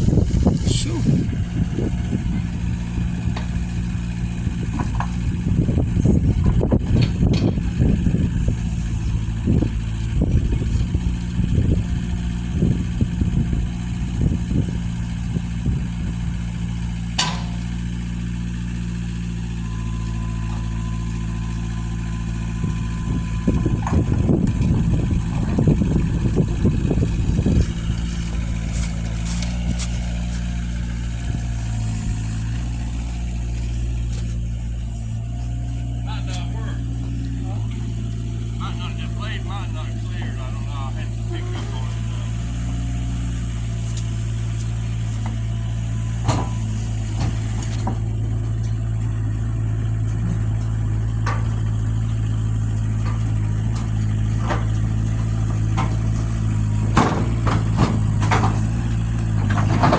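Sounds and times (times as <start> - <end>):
engine idling: 0.0 - 59.9
low rumbles: 0.0 - 59.9.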